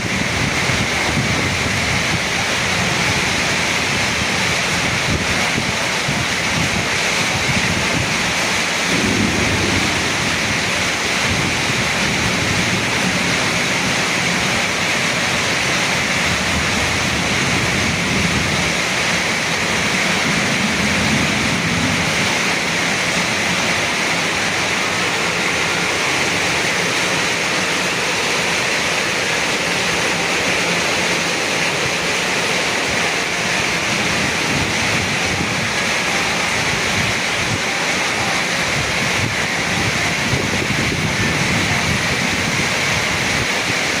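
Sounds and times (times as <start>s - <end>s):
heavy rain pouring: 0.0s - 44.0s
strong wind gusts: 0.0s - 44.0s.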